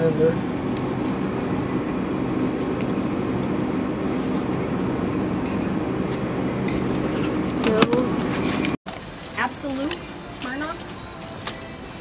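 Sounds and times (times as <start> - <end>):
store background hum: 0.0 - 12.0.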